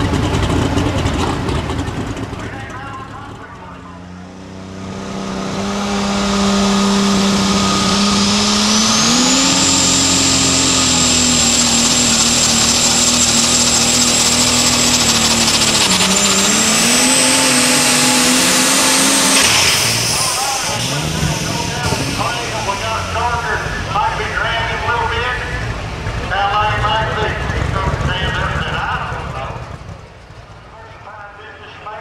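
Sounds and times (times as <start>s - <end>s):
high turbo whine: 0.0s - 32.0s
tractor engine at full power: 0.0s - 32.0s.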